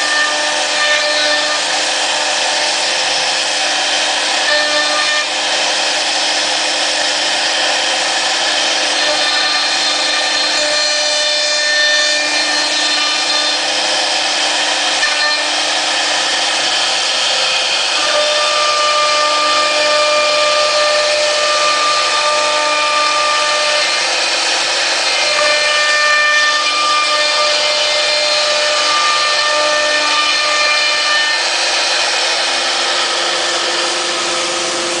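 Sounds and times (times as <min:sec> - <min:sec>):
wood router cutting wood: 0:00.0 - 0:35.0.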